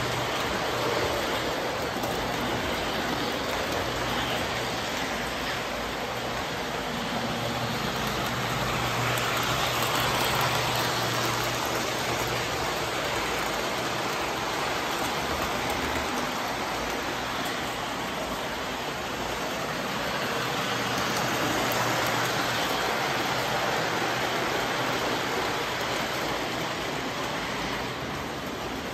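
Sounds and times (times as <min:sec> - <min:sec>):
toy train wheels rumbling: 0:00.0 - 0:28.9.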